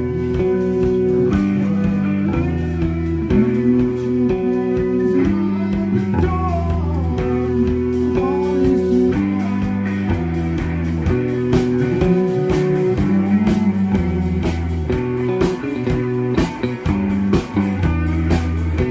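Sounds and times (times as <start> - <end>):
bending lead guitar notes: 0.0 - 18.9
live band playing: 0.0 - 18.9.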